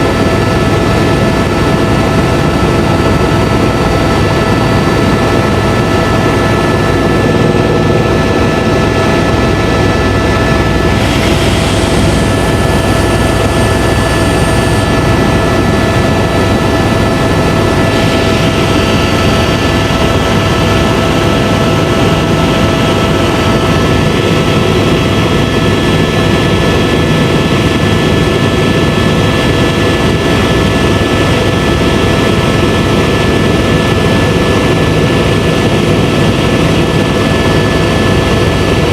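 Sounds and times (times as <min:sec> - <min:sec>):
helicopter turbine and rotor: 0:00.0 - 0:38.9.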